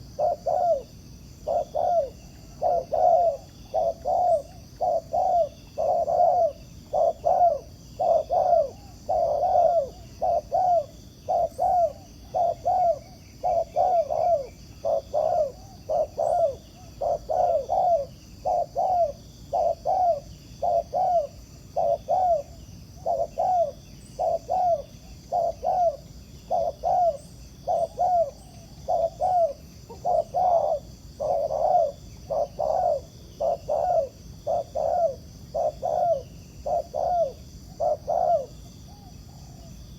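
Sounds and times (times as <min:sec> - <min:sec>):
dove cooing: 0:00.0 - 0:39.8.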